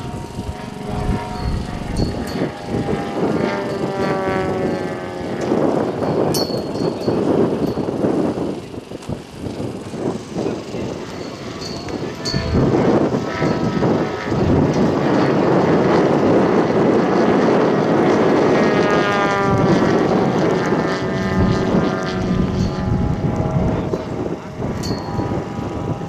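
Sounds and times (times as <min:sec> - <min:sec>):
model airplane engine and propeller: 0:00.0 - 0:26.0.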